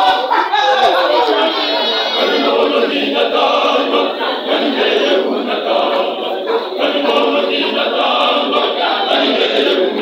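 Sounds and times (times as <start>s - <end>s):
many voices singing together: 0.0s - 10.0s.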